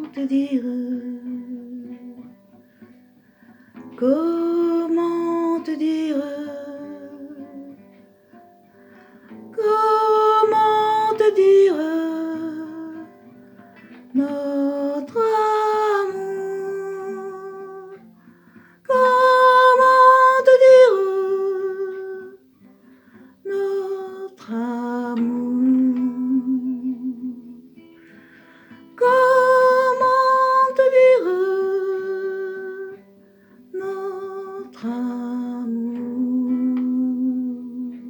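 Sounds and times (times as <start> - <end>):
person singing slow melody: 0.0 - 2.9, 3.7 - 8.0, 9.0 - 22.7, 23.4 - 38.0
acoustic guitar: 0.0 - 38.0.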